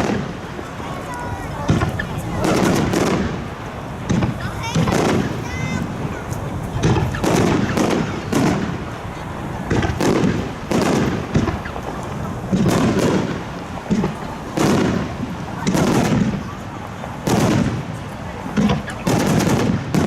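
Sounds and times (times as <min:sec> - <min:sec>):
fireworks booming with echo: 0:00.0 - 0:20.0.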